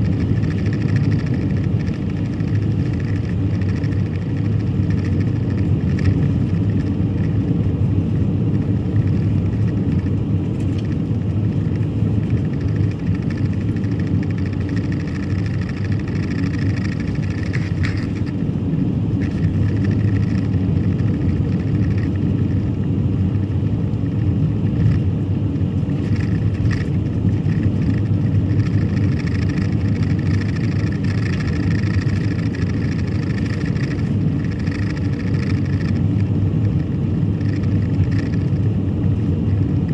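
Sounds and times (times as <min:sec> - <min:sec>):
car driving: 0:00.0 - 0:39.9.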